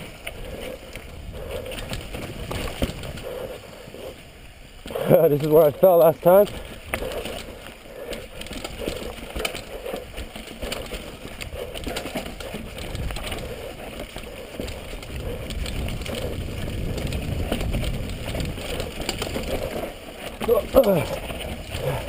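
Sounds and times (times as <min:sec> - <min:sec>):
bike clicks and clatters: 0:00.0 - 0:22.0
tyres crunching over stones: 0:00.0 - 0:22.0.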